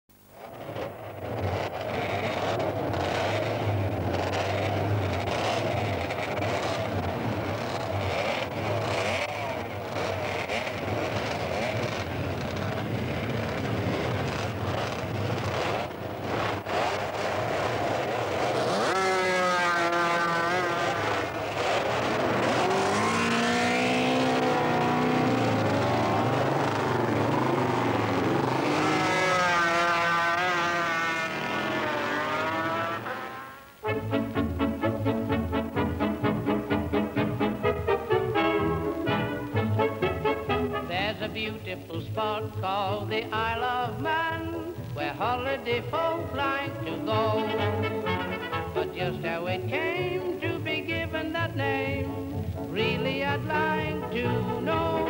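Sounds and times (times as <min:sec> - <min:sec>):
racing motorcycle engines: 0:00.1 - 0:55.0
motorcycle engine revving: 0:00.4 - 0:55.0.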